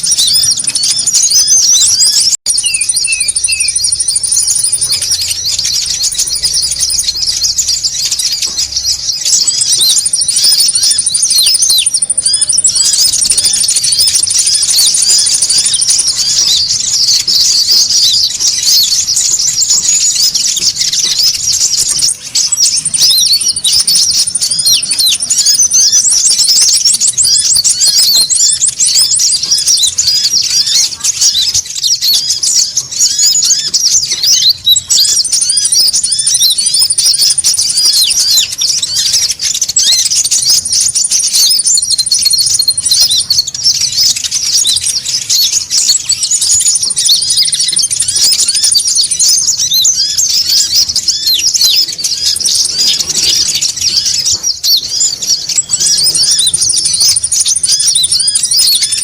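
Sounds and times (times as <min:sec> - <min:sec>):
fast high bird trill: 0:00.0 - 0:59.0
flock of birds chirping: 0:00.0 - 0:59.0.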